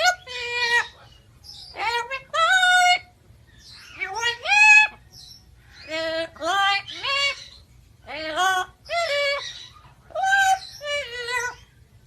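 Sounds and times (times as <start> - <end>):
parrot calls: 0.0 - 11.8.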